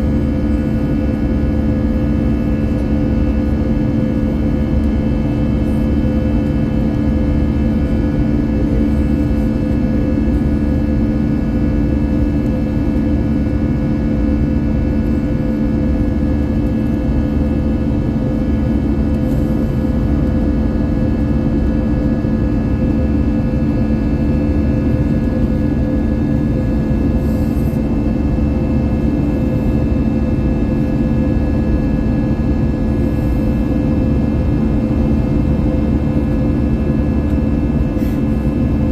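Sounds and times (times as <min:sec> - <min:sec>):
jet engines rumbling in cabin: 0:00.0 - 0:38.9
steady hums and whines: 0:00.0 - 0:38.9.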